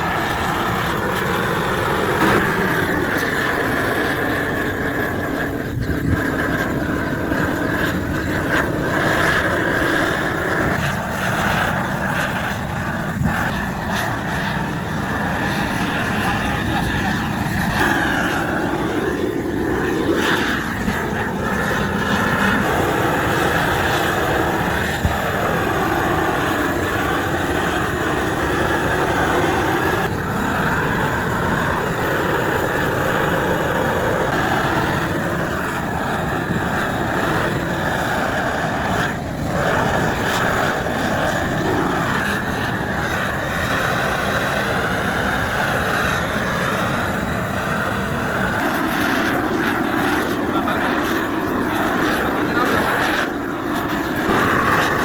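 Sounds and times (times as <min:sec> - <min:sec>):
machinery droning: 0:00.0 - 0:55.0.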